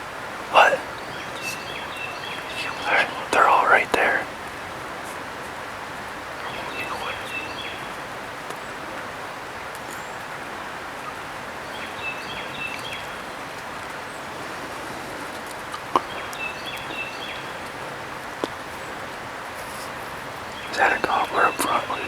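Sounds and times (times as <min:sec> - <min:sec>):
songbird singing: 0:00.0 - 0:09.0, 0:11.5 - 0:22.0
outdoor background hiss: 0:00.0 - 0:22.0.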